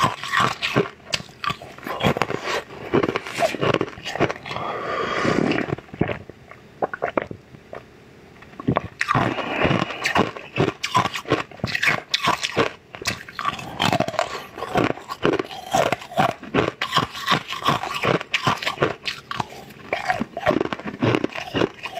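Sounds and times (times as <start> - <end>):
wet bites and chewing: 0.0 - 4.7, 8.6 - 21.9
crunchy mouth clicks: 0.0 - 4.8, 5.5 - 21.9.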